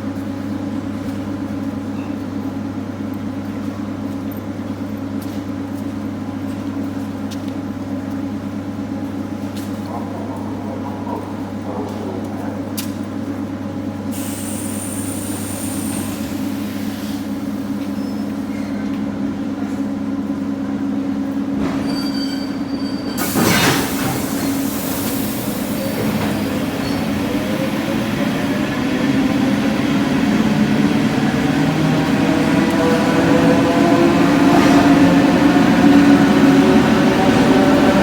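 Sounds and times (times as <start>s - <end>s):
train wheel and rail noise: 0.0s - 38.0s.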